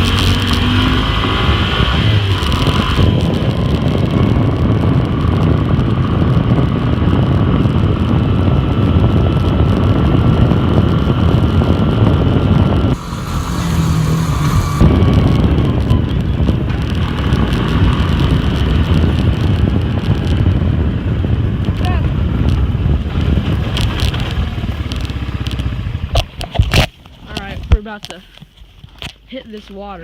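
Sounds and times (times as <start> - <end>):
atv engine running: 0.0 - 28.9.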